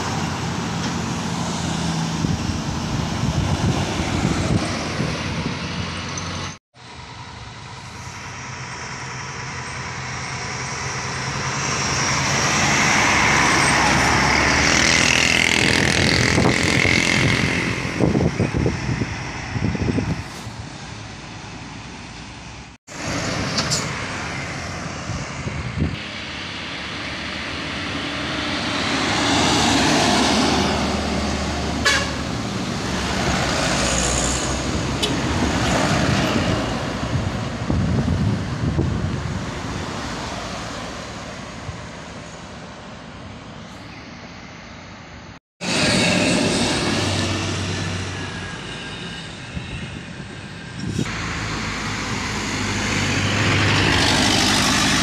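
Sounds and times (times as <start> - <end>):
diesel trucks climbing hill: 0.0 - 55.0.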